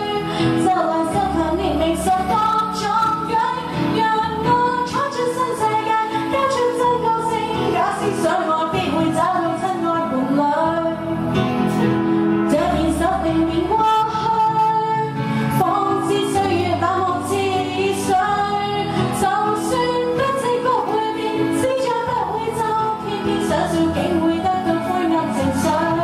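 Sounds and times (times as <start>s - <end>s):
recorded backing music: 0.0s - 26.0s
woman singing into a microphone: 0.0s - 26.0s.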